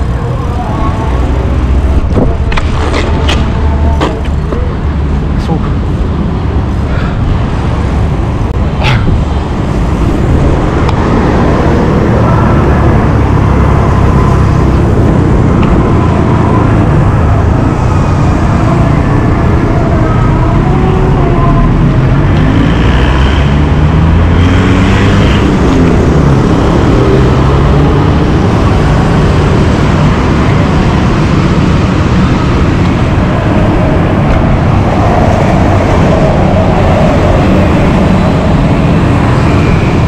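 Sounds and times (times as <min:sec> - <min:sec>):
low traffic rumble: 0:00.0 - 0:40.0
motorbikes and cars passing: 0:00.0 - 0:40.0.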